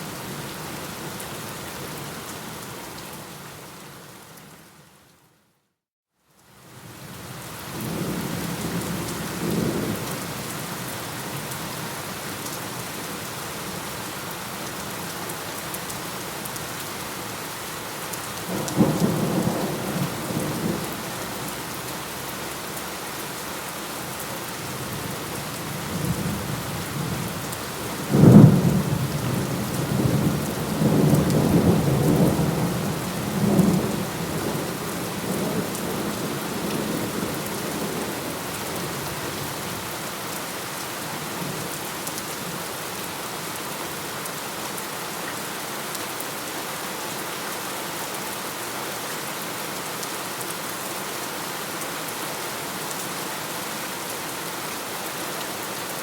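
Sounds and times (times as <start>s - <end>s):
steady rain: 0.0s - 5.4s, 6.2s - 56.0s.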